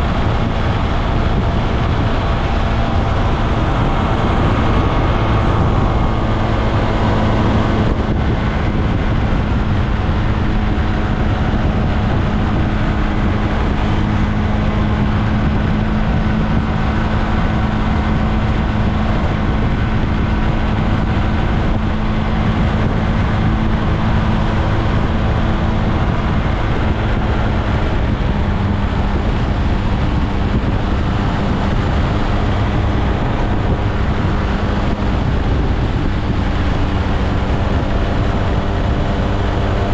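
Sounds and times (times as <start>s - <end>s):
road noise: 0.0s - 39.9s
scooter engine cruising: 0.0s - 39.9s
wind noise: 0.0s - 39.9s.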